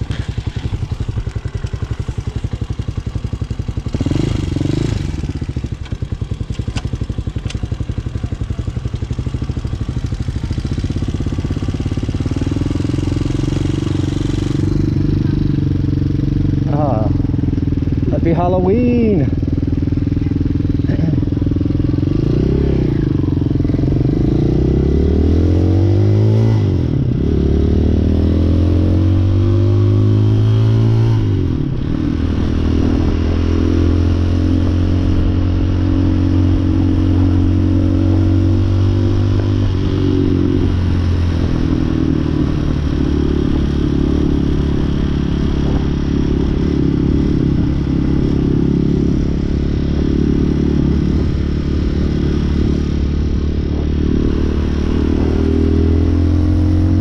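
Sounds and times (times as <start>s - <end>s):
dirt bike engine revving: 0.0s - 5.7s, 9.2s - 57.0s.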